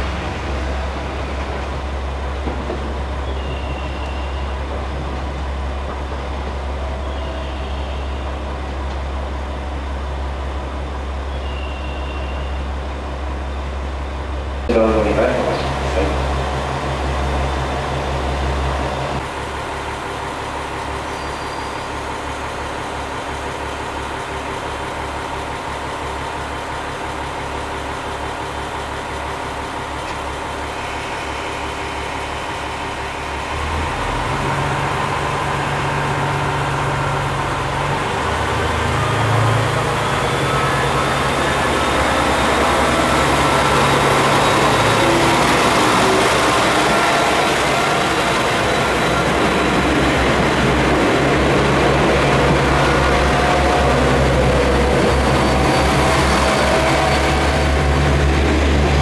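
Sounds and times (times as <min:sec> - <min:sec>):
diesel train engine: 0:00.0 - 0:59.0.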